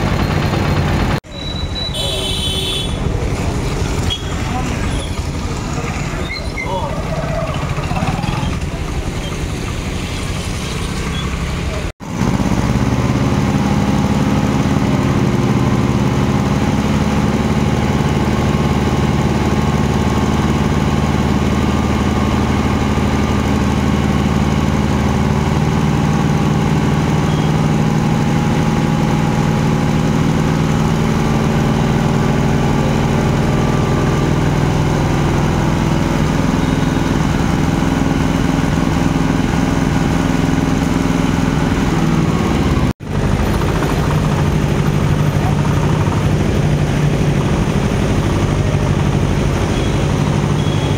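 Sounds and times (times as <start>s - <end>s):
engine running at low revs: 7.0s - 50.9s.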